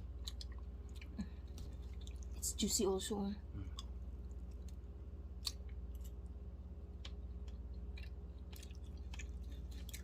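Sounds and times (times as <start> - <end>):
mouth chewing wet and crunchy: 0.0 - 2.5, 3.5 - 10.0
steady low hum: 0.0 - 10.0.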